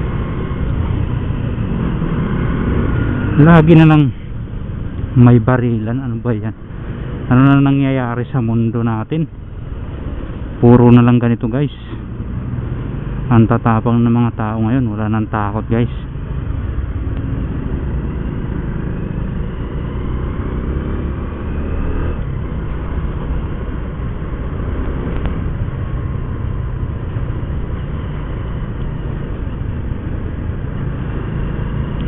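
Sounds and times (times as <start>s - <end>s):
road and wind noise: 0.0s - 32.0s.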